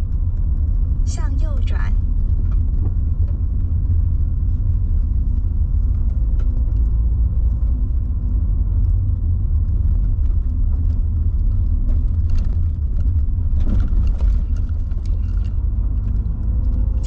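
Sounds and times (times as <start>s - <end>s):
car tyre and engine rumble: 0.0s - 17.0s.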